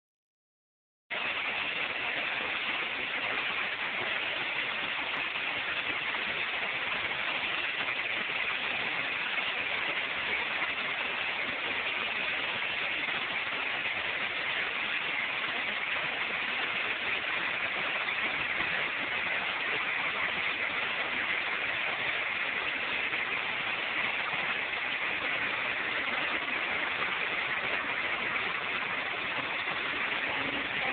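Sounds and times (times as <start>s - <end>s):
hail and heavy rain: 1.2s - 30.9s.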